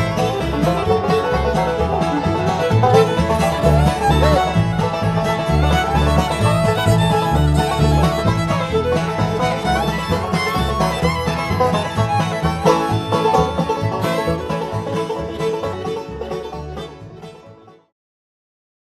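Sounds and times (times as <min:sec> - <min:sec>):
banjo: 0:00.0 - 0:17.9
bass: 0:00.0 - 0:17.9
fiddle: 0:00.0 - 0:17.9
guitar: 0:00.0 - 0:17.9.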